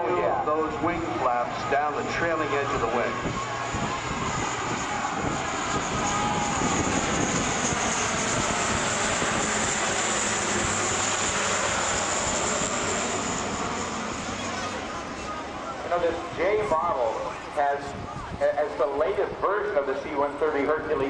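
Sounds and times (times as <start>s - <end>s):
high engine whine: 0.0s - 21.0s
turboprop aircraft rumble: 0.0s - 21.0s.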